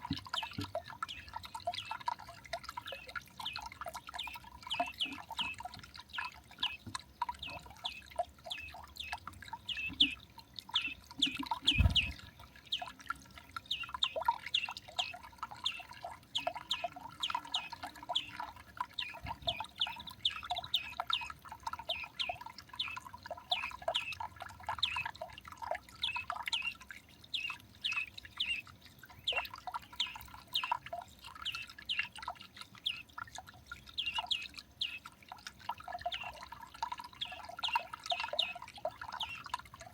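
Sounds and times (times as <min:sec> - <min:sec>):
small birds chirping: 0:00.0 - 0:25.3, 0:26.0 - 0:35.2, 0:35.9 - 0:39.6.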